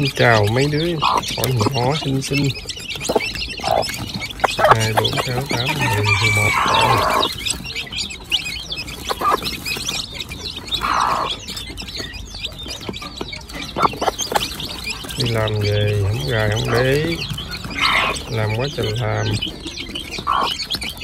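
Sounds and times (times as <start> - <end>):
chicks peeping: 0.0 - 21.0
hen clucking: 0.0 - 21.0.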